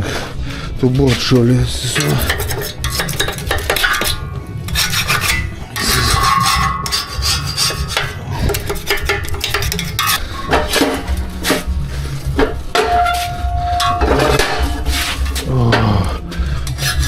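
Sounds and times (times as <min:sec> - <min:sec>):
scraping against steel trolley: 0:01.2 - 0:17.0.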